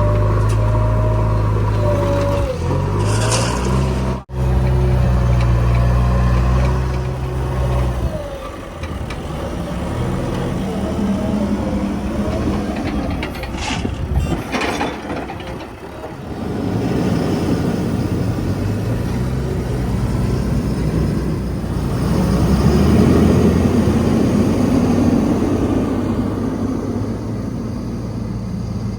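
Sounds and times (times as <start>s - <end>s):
heavy diesel engines working: 0.0s - 28.9s.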